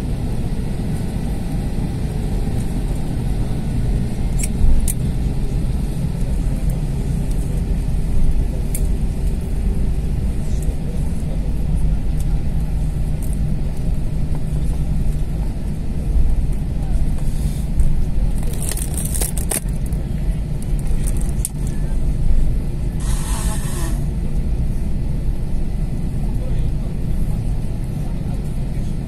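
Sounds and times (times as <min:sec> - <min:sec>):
aircraft cabin rumble: 0:00.0 - 0:29.0.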